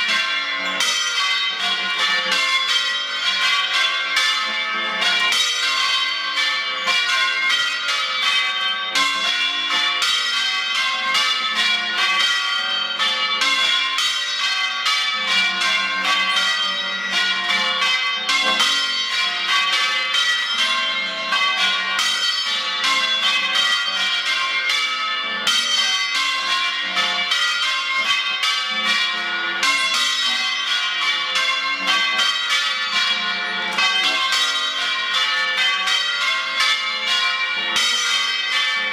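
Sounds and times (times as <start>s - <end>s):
church bells change ringing: 0.0s - 38.9s.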